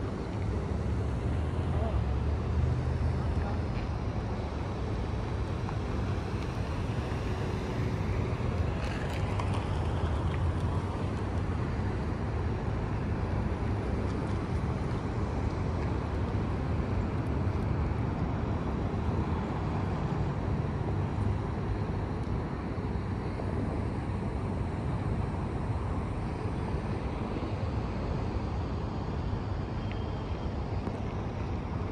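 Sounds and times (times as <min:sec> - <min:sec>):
low rumble of road traffic: 0:00.0 - 0:31.9.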